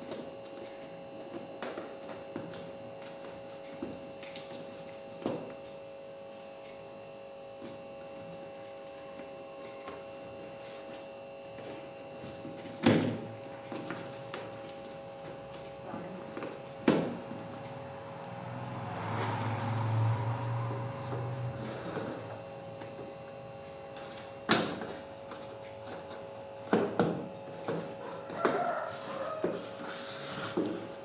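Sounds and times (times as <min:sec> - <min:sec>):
electrical hum: 0:00.0 - 0:31.0.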